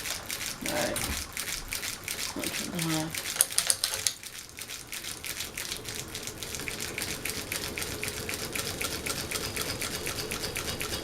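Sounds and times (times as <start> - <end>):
ceiling fan ticking: 0.0 - 11.0
faint fan hum: 0.0 - 11.0.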